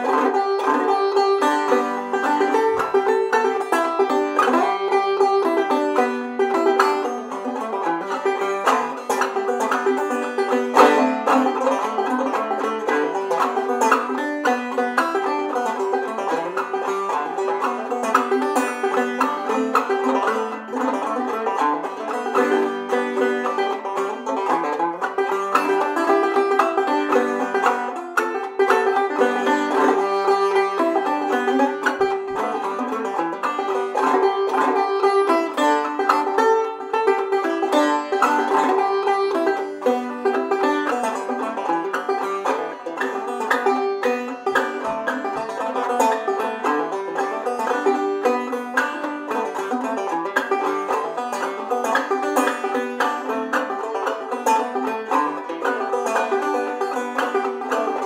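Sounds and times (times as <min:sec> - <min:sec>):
banjo playing: 0:00.0 - 0:58.0.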